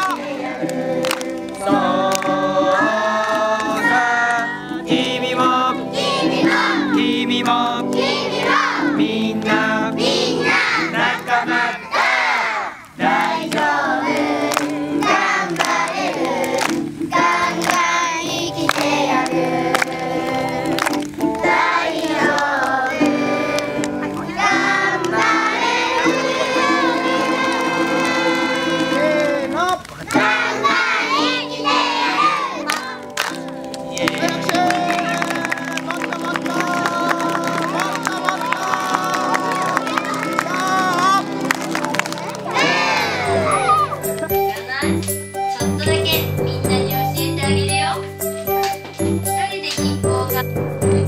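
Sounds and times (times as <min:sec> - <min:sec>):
group of voices singing: 0:00.0 - 0:33.2, 0:33.9 - 0:44.1.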